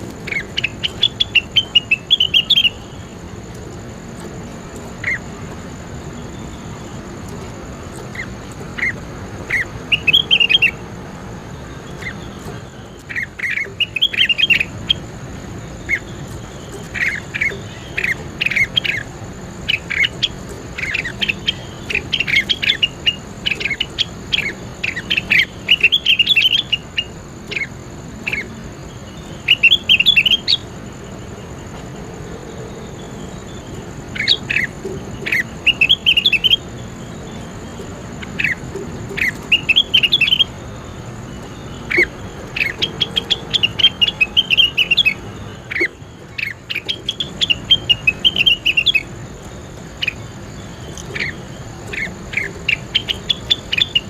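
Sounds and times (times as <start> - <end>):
songbird chirps and trills: 0.0 - 54.0.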